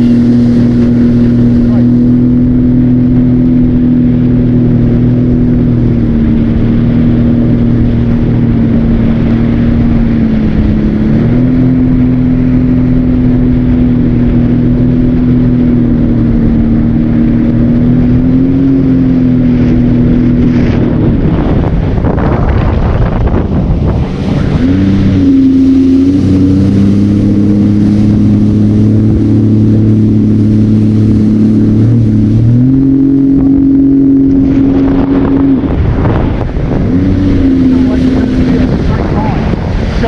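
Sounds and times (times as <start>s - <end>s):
jet ski engine running: 0.0s - 40.0s.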